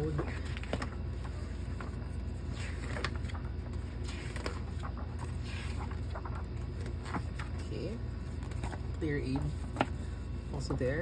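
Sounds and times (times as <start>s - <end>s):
paper pages rustling and turning: 0.0s - 11.0s
steady low hum: 0.0s - 11.0s.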